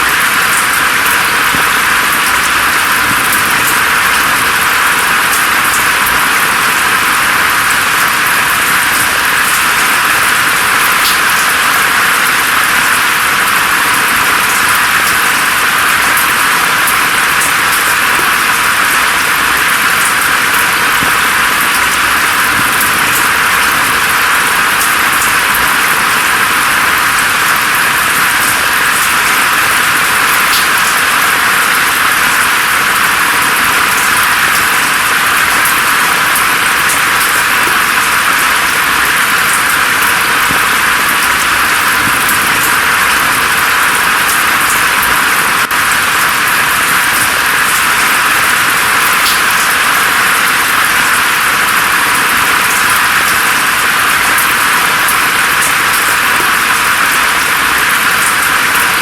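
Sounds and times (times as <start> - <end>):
rain hissing through foliage: 0.0 - 59.0.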